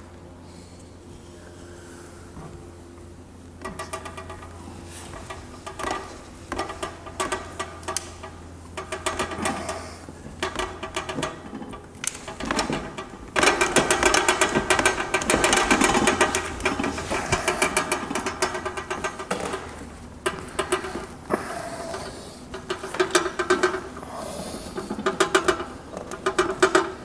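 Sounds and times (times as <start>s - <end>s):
rapid mechanical clicking: 3.6s - 27.0s.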